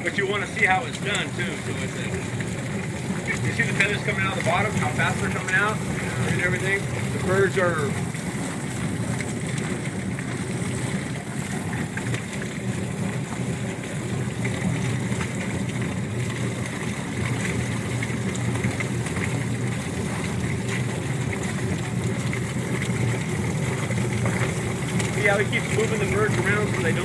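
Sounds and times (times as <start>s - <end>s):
chicken plucker drum running: 0.0s - 27.0s
water spraying from hose: 0.0s - 27.0s.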